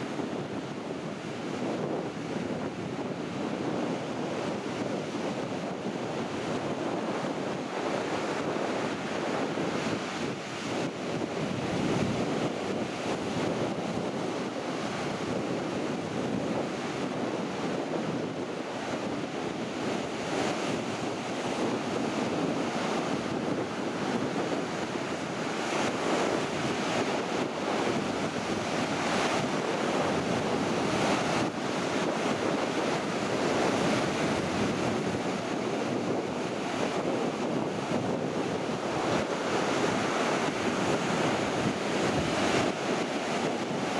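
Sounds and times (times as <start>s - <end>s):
waves breaking on sand: 0.0s - 43.9s
wind blowing over microphone: 0.0s - 43.9s.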